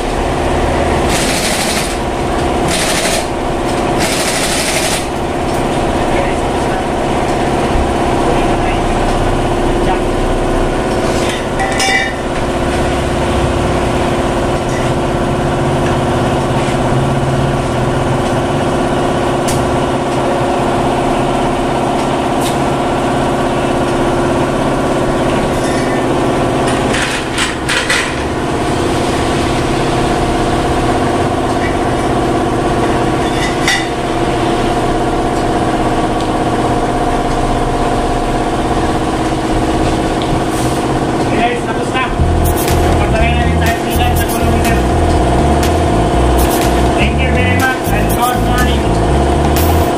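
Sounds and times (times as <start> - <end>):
motor running steadily: 0.0 - 49.9.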